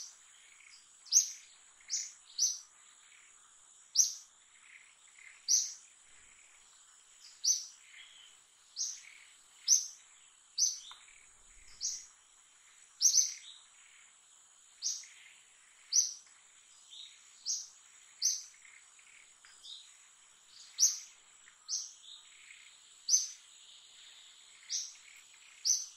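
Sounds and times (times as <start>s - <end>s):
bird chirping: 0.0s - 25.9s.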